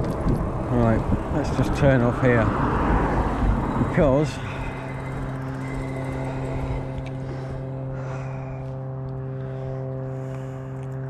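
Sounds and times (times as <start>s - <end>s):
electric bike motor hum: 0.0s - 11.0s
wind: 0.0s - 11.0s.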